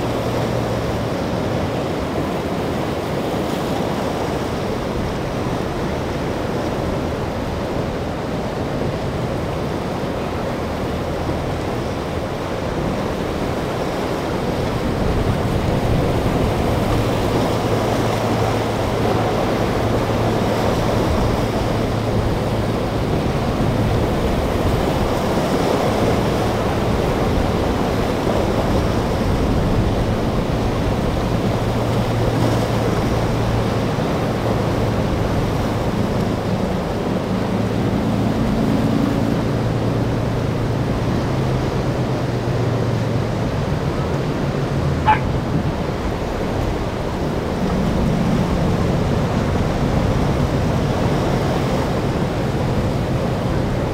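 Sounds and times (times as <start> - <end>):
boat engines humming: 0.0 - 53.9
rough surf: 0.0 - 53.9
wind: 0.0 - 53.9.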